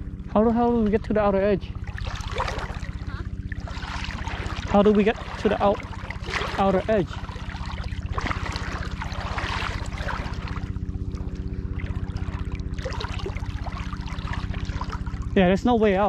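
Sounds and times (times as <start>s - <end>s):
low pulsing hum: 0.0s - 16.0s
seawater lapping and trickling: 0.0s - 16.0s.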